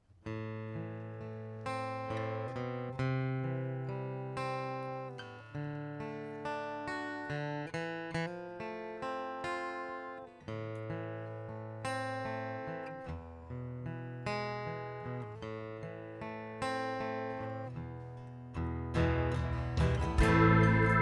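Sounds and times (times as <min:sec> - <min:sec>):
acoustic guitar picked and strummed: 0:00.0 - 0:21.0.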